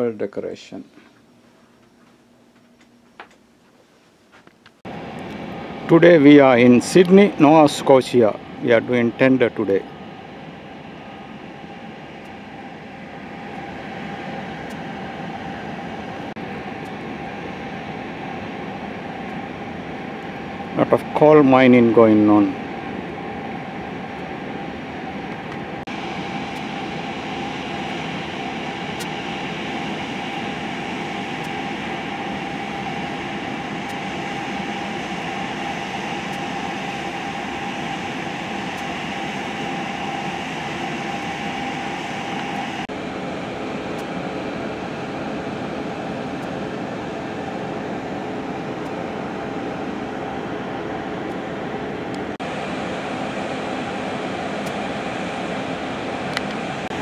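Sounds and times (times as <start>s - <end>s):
boat engine droning: 4.9s - 57.0s.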